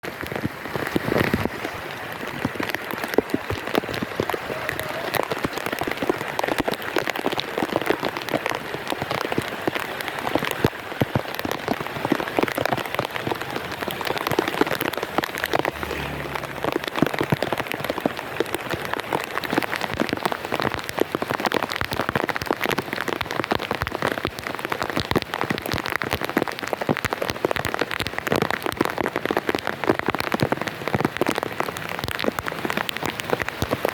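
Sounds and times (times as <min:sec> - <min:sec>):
heavy rain on hard surface: 0:00.0 - 0:33.9.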